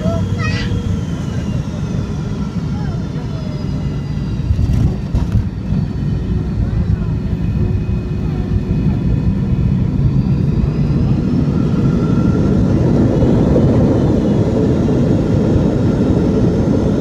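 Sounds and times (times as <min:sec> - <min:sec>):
jet engines and wheels rumbling: 0:00.0 - 0:17.0.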